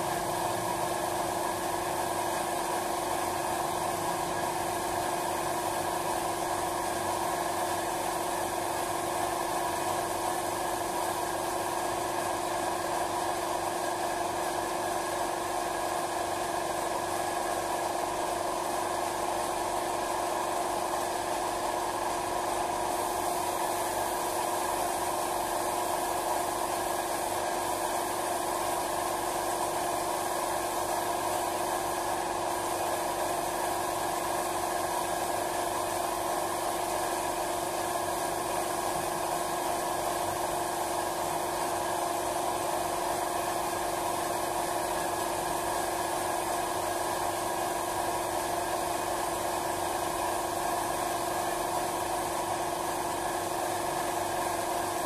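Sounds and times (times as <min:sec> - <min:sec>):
paint sprayer machine hum: 0:00.0 - 0:55.0.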